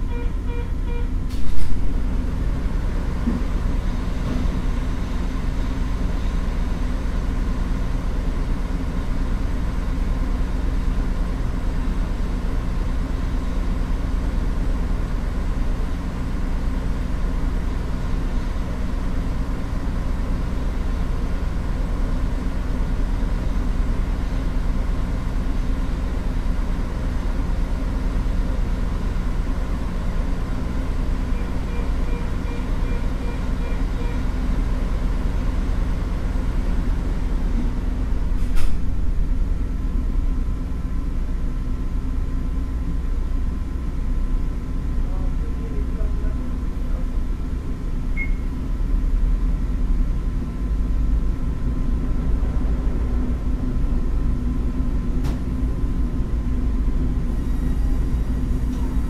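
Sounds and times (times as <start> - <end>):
diesel railcar engine idling: 0.0 - 59.0.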